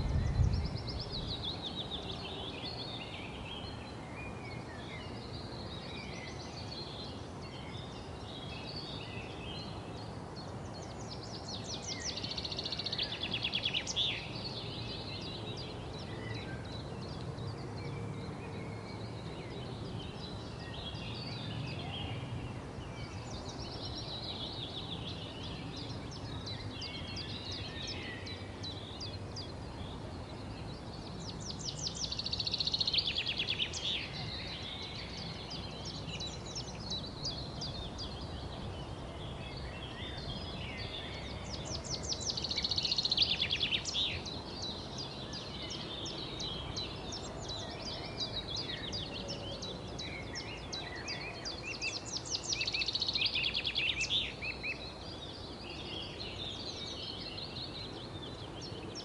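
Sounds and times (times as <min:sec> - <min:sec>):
outdoor background hiss: 0:00.0 - 0:59.0
songbirds singing and chirping: 0:00.0 - 0:59.0.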